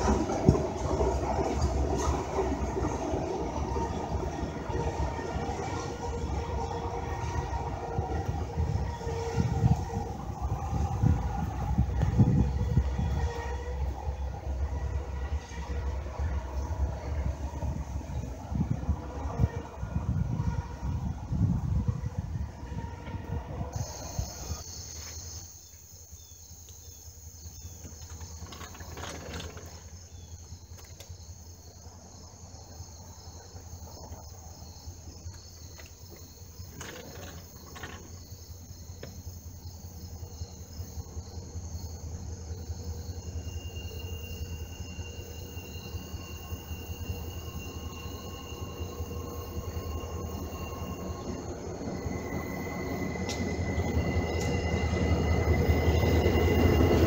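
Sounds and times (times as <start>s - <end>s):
crickets and insects chirring: 0.0s - 57.0s.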